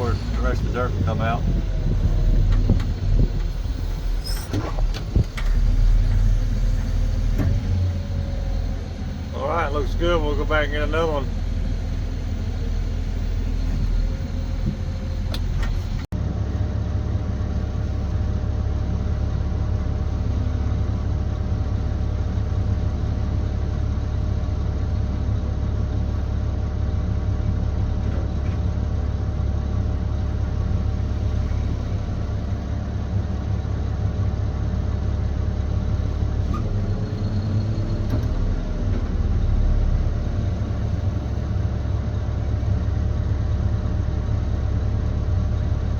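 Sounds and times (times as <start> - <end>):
truck diesel engine droning: 0.0 - 45.9.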